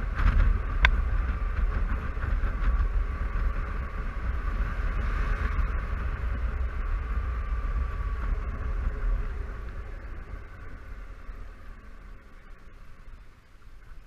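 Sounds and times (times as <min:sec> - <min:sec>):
faint steady whine: 0:00.0 - 0:14.0
road noise: 0:00.0 - 0:14.0
scooter engine: 0:00.0 - 0:14.0
wind rumble: 0:00.0 - 0:14.0.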